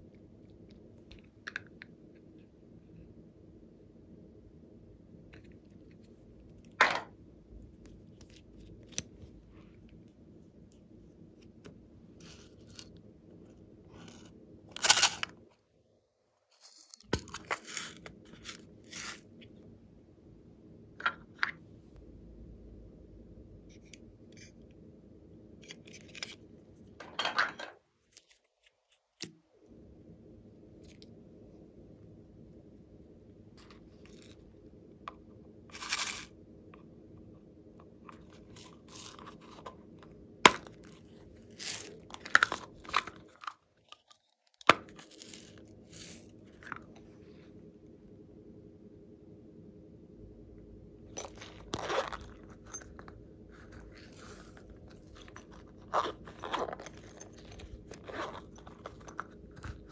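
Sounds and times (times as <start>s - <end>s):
steady low hum: 0.0s - 16.3s, 17.0s - 28.2s, 29.2s - 43.9s, 44.6s - 59.9s.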